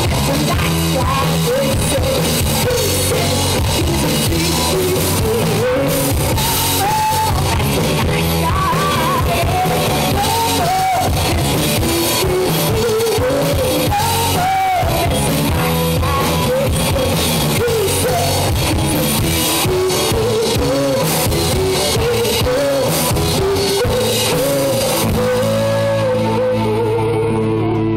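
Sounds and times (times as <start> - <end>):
drum kit: 0.0 - 26.9
electric guitar: 0.0 - 27.9
person singing: 0.0 - 27.9.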